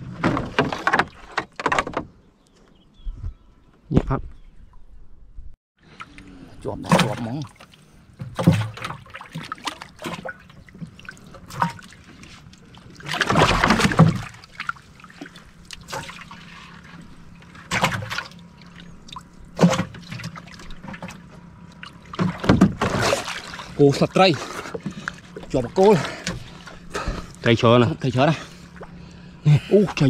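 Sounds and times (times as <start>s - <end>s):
water splashing and trickling: 5.8s - 30.0s.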